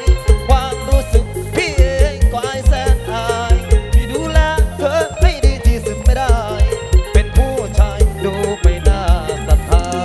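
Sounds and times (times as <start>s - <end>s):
wavering lead melody: 0.0s - 10.0s
fast kick drum beat: 0.1s - 10.0s.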